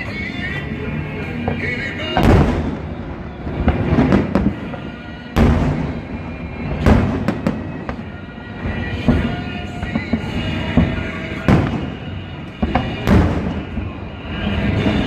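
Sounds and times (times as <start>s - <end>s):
background music: 0.0s - 15.0s
fireworks booming: 0.0s - 15.0s
fireworks cracks: 0.0s - 15.0s.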